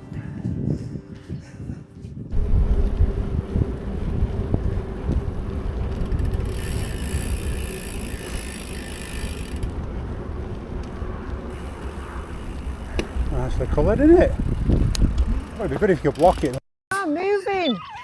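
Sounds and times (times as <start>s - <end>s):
wind buffeting microphone: 0.0s - 16.6s.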